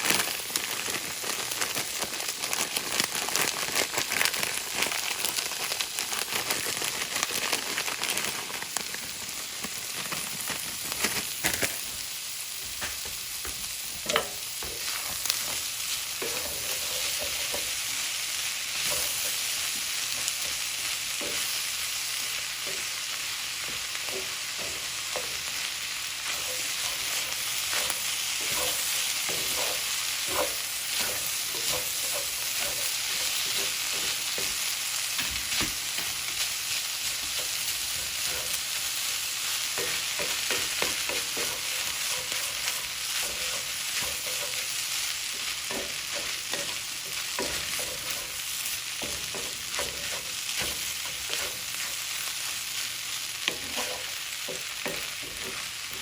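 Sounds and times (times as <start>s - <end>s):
rice sizzling in a pan: 0.0s - 56.0s.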